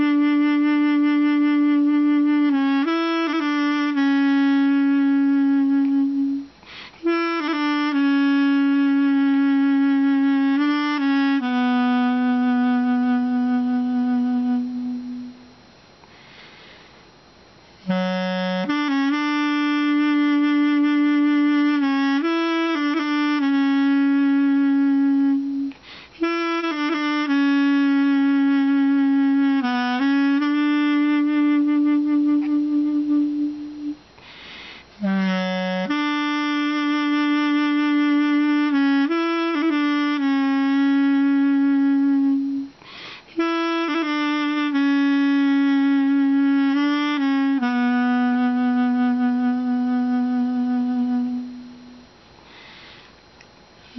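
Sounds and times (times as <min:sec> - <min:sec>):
double-reed woodwind melody: 0:00.0 - 0:15.6, 0:17.8 - 0:52.2.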